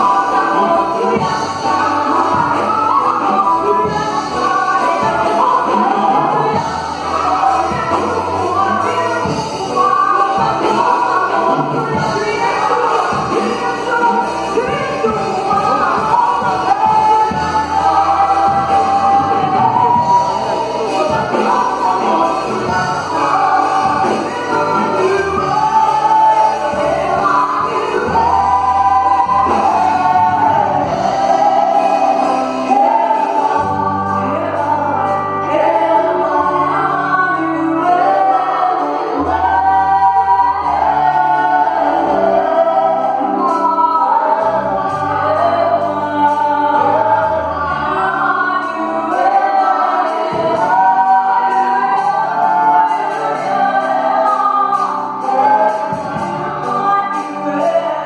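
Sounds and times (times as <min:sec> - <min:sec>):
backing vocals: 0:00.0 - 0:58.0
electric guitar: 0:00.0 - 0:58.0
female and male singers: 0:00.0 - 0:58.0
keyboards: 0:00.0 - 0:58.0.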